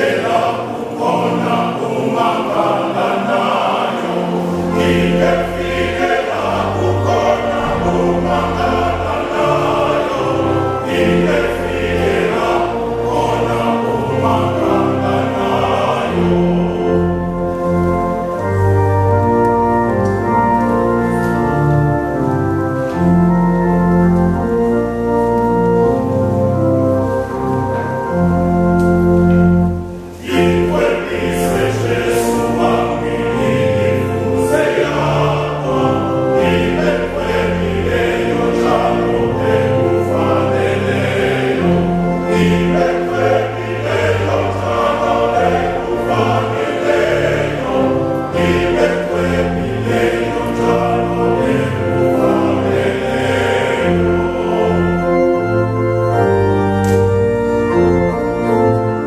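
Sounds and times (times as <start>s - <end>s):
choir singing a hymn: 0.0s - 59.0s
church organ chords: 0.0s - 59.0s.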